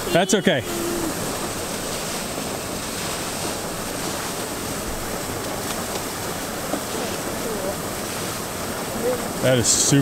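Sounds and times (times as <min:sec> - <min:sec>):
river rapids rushing: 0:00.0 - 0:10.0.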